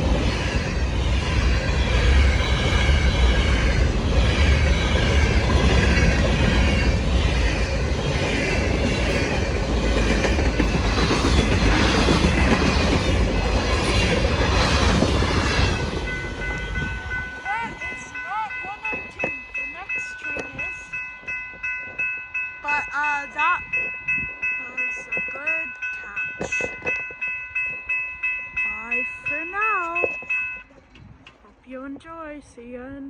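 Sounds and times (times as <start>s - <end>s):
train wheels rumbling on rails: 0.0s - 31.4s.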